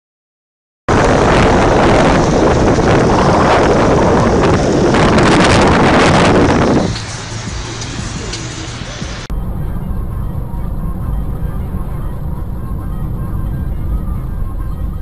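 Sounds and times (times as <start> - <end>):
loud rushing roar: 0.9 - 15.0.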